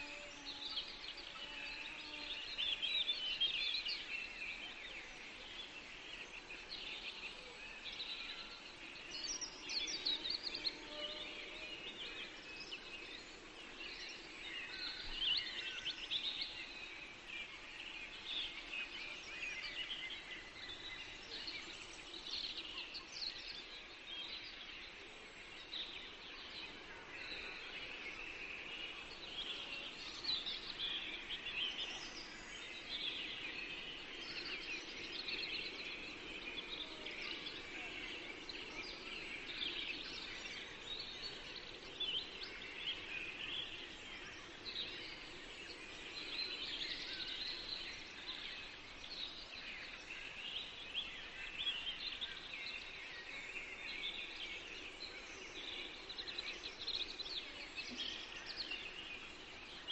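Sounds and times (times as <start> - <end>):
faint steady hiss: 0.0 - 59.9
songbirds singing: 0.0 - 59.9.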